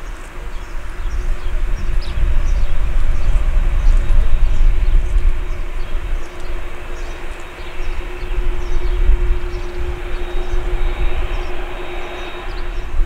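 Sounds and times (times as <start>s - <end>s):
faint high whine: 0.0s - 13.0s
jet engines running: 0.0s - 13.0s.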